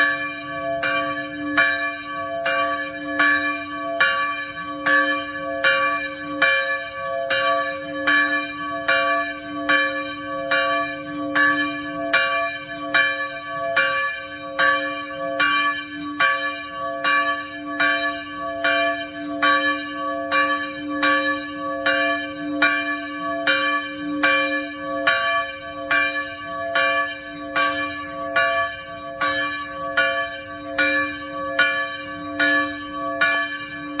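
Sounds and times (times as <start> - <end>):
church bell ringing: 0.0 - 34.0.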